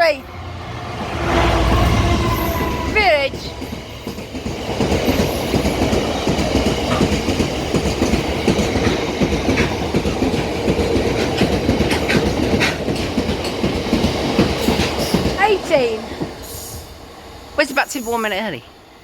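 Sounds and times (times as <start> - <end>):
train wheels clattering over rails: 0.7 - 17.4.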